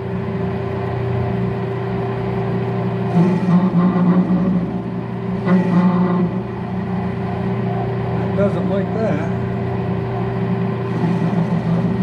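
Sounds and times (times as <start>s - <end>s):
lathe motor hum: 0.0s - 12.0s.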